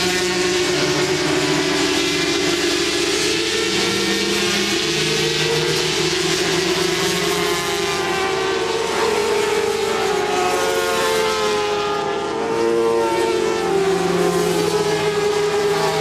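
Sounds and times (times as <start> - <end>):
racing motorcycles running hard: 0.0 - 16.0.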